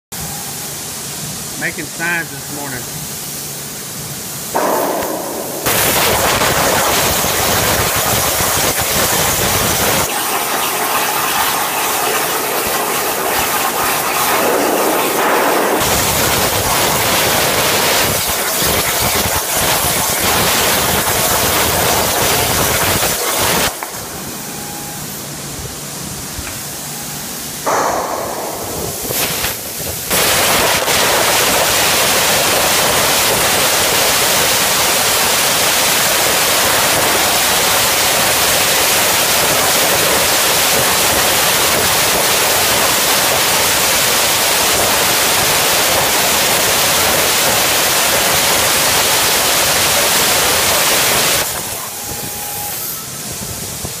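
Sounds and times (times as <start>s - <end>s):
plasma cutter hissing: 0.2s - 54.0s.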